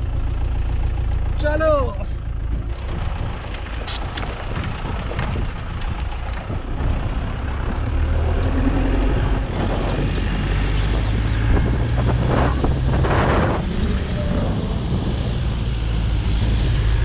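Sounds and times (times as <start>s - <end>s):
car engine rumbling: 0.0s - 17.0s
wind: 0.0s - 17.0s.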